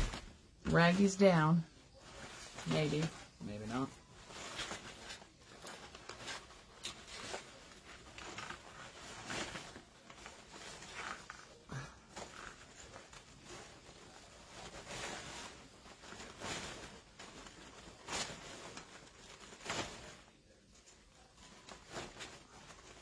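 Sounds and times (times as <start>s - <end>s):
fabric and ribbon rustling: 0.0s - 23.0s.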